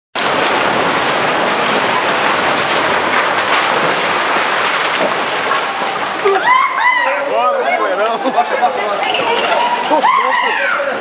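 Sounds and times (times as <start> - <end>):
building collapsing: 0.2 - 11.0.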